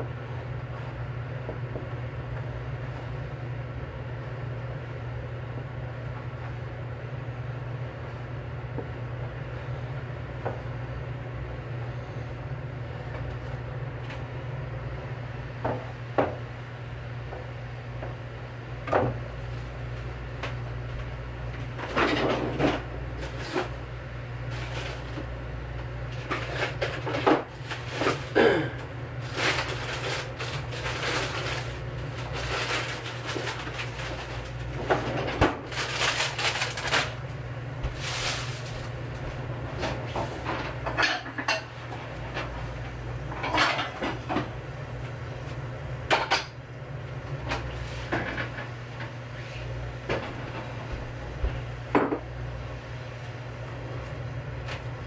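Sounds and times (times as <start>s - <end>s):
gas burner hum: 0.0s - 55.0s.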